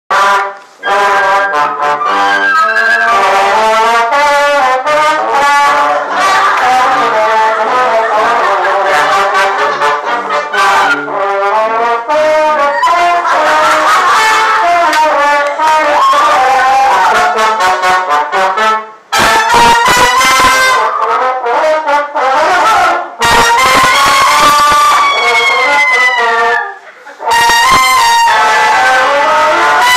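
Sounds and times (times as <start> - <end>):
french horn and brass playing: 0.1 - 29.9.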